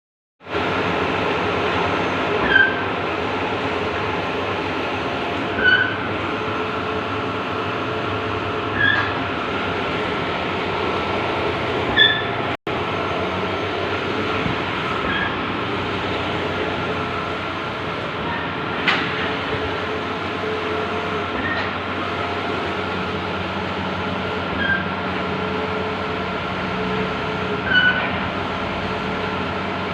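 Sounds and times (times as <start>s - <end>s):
printer machine hum: 0.5s - 29.9s.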